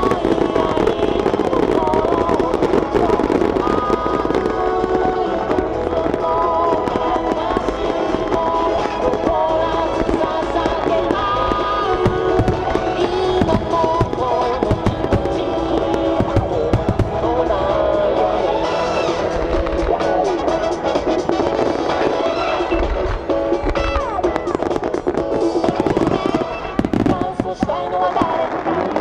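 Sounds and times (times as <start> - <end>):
fireworks bursting and crackling: 0.0 - 29.0
music with held melody: 0.0 - 29.0.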